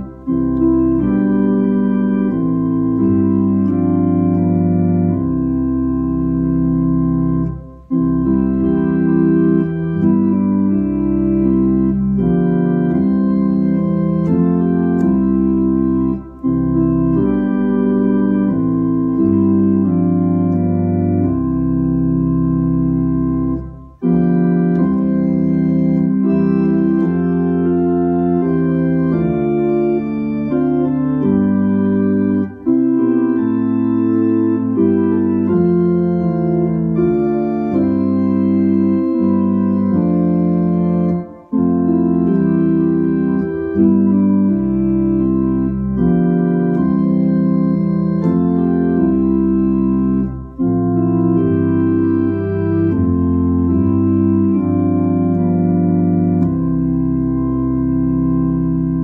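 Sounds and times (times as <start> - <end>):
low organ bass line: 0.0 - 59.0
organ playing a hymn: 0.0 - 59.0.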